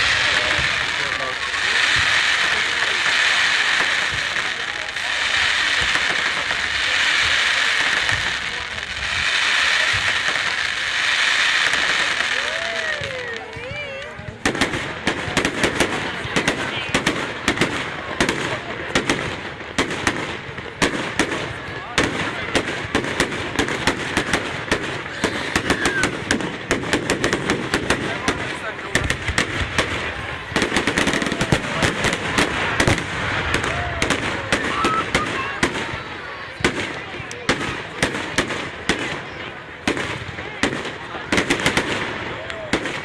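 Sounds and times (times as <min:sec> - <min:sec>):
fireworks crackling: 0:00.0 - 0:43.0.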